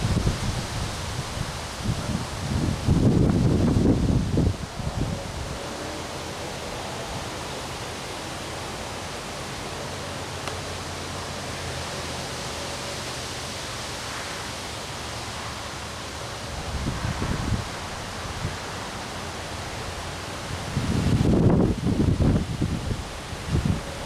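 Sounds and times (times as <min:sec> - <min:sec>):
wind blowing: 0:00.0 - 0:10.2, 0:14.1 - 0:24.0.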